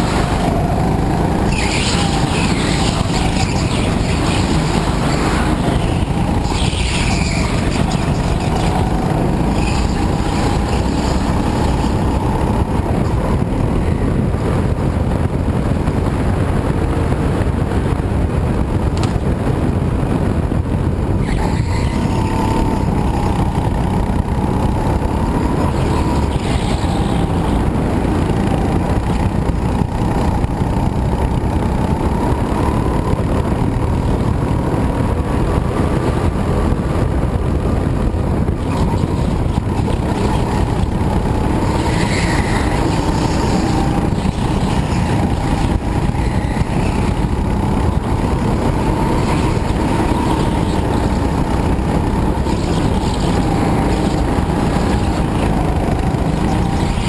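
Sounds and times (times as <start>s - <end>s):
go-kart engine running hard: 0.0s - 57.0s.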